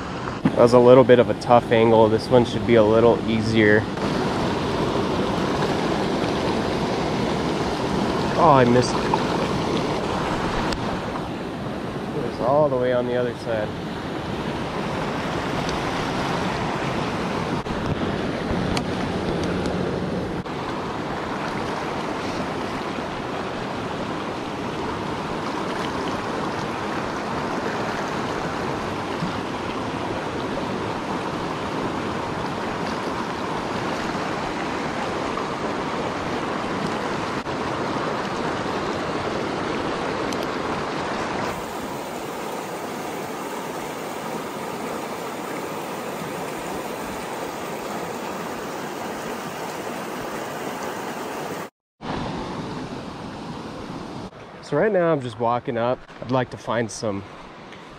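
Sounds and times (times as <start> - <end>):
creek water rushing: 0.0 - 57.9.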